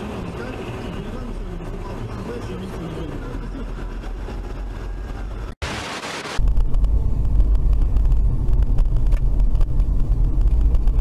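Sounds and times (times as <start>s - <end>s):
road and engine rumble: 0.0s - 11.0s
traffic noise: 0.0s - 11.0s.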